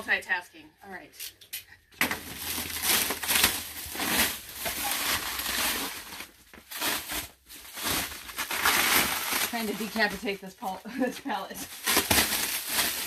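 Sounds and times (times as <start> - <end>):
shrink wrap crinkling and tearing: 2.0 - 13.0.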